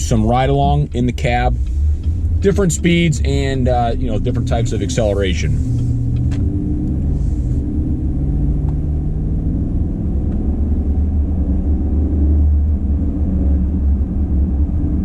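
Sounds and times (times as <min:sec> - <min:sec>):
engine drone: 0:00.0 - 0:15.0
road rumble: 0:00.0 - 0:15.0.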